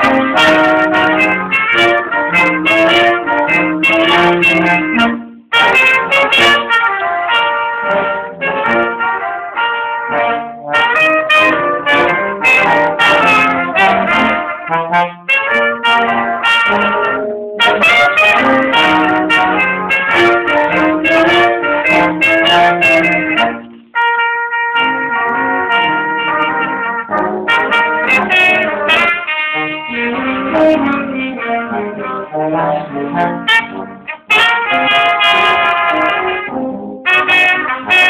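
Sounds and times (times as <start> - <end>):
trombone and trumpets playing: 0.0 - 38.0.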